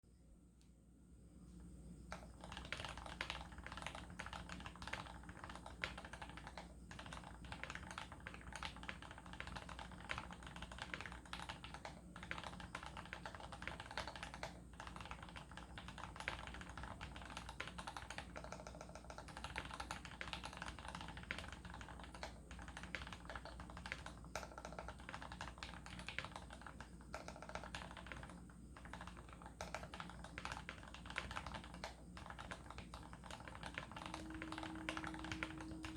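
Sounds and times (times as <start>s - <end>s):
mechanical keyboard typing: 2.1s - 35.9s.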